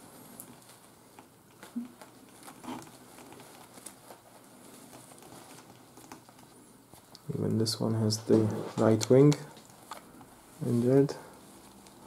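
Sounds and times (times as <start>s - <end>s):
feathers and clothing rustling: 1.6s - 12.0s.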